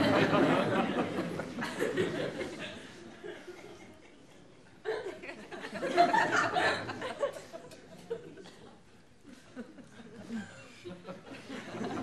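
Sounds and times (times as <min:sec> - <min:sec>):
studio audience laughing: 0:00.0 - 0:03.8, 0:04.9 - 0:08.4, 0:09.6 - 0:12.0.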